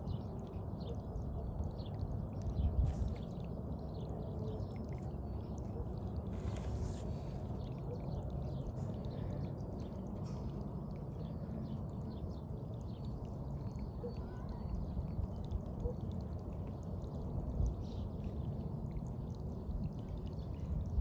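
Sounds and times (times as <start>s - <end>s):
water trickling and gurgling: 0.0s - 21.0s.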